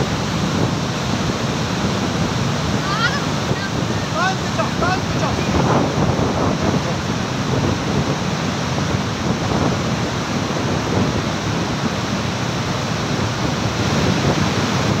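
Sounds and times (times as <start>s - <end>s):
floodwater rushing over rocks: 0.0s - 15.0s
wind buffeting microphone: 0.0s - 15.0s.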